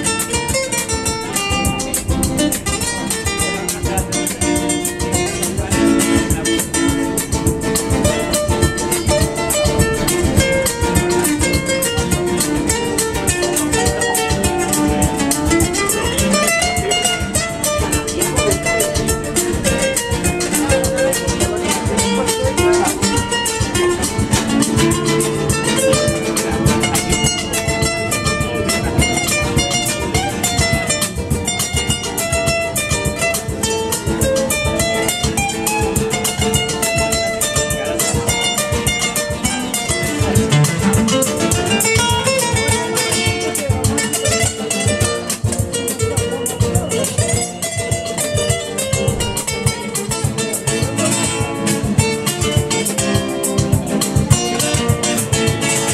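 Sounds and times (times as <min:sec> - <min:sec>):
acoustic guitars strumming: 0:00.0 - 0:55.9.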